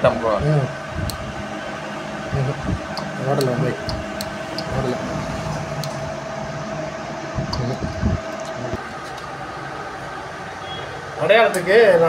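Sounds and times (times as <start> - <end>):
fan-like hum: 0.0 - 12.0
thin steady whine: 0.0 - 12.0.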